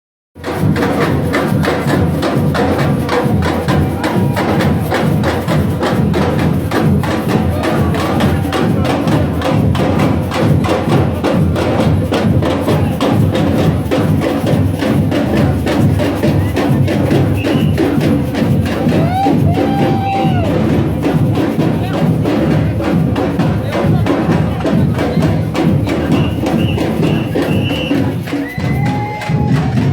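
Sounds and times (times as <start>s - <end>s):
loud music with fast percussion: 0.4s - 29.9s.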